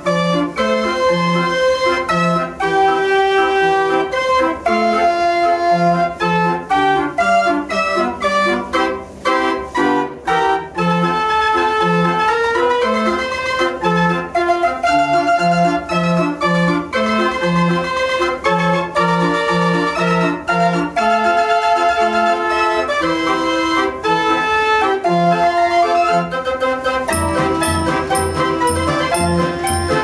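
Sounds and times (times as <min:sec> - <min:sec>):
fairground organ playing a tune: 0:00.0 - 0:30.0.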